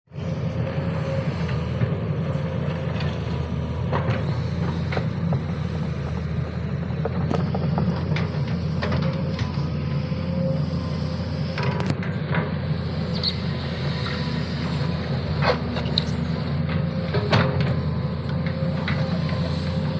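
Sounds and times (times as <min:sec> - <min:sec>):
excavator diesel engine running: 0:00.1 - 0:19.9.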